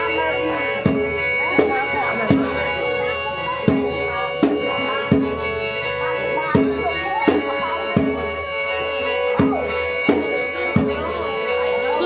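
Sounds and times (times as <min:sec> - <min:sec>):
drum striking sharply: 0:00.0 - 0:12.0
wavering melody: 0:00.0 - 0:12.0.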